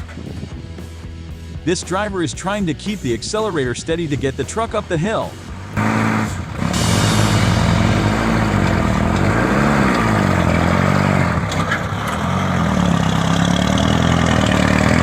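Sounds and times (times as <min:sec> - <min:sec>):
truck engine revving uphill: 0:02.8 - 0:15.0.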